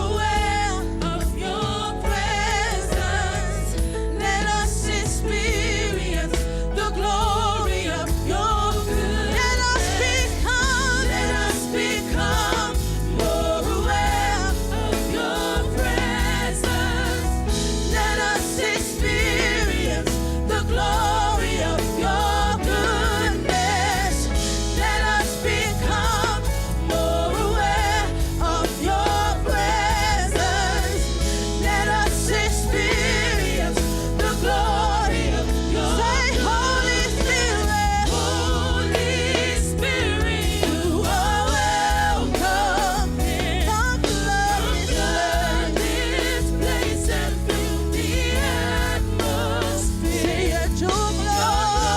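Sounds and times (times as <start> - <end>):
backing singers: 0.0 - 51.9
lead singer: 0.0 - 51.9
live band playing: 0.0 - 51.9.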